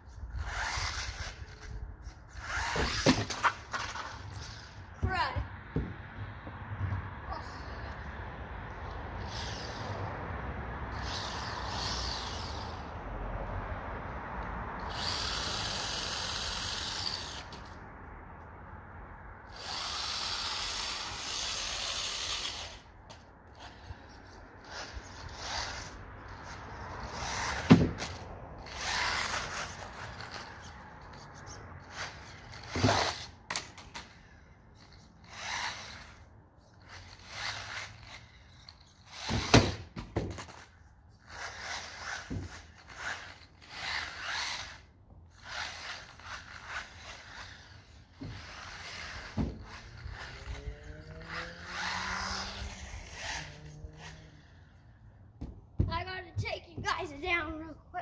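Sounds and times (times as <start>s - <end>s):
rc car motor whining: 0.0s - 4.9s, 8.8s - 10.1s, 10.9s - 13.0s, 14.8s - 17.8s, 19.4s - 55.0s.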